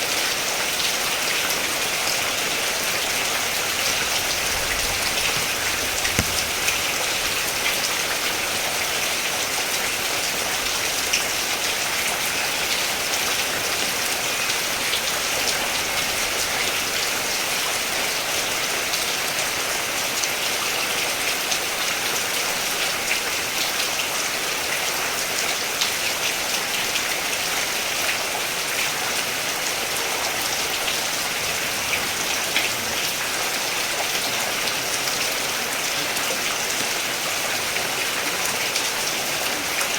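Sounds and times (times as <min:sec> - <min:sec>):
raindrops pattering: 0:00.0 - 0:39.9
steady rain falling: 0:00.0 - 0:39.9.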